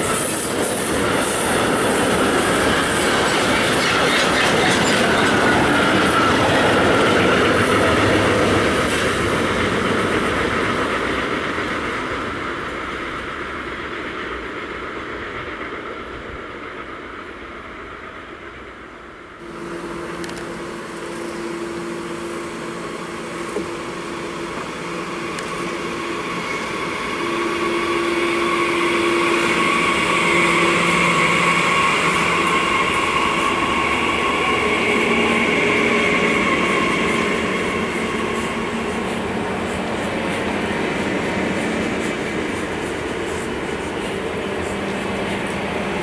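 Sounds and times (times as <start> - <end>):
train rolling on rails: 0.0 - 46.0.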